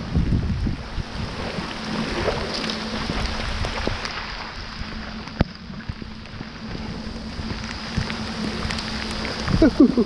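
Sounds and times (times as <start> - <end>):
floodwater running across road: 0.0 - 10.0
heavy rain hissing: 0.0 - 10.0.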